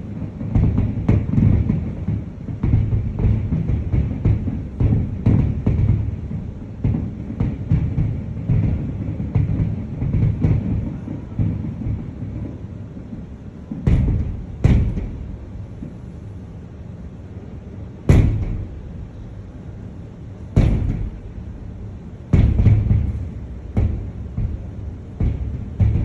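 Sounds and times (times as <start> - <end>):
firework shells bursting: 0.0 - 16.3, 18.0 - 26.0.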